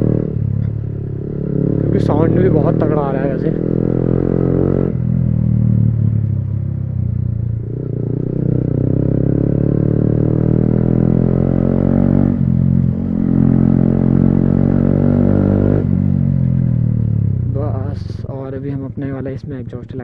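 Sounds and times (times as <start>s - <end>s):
loud deep motorcycle engine: 0.0s - 20.0s.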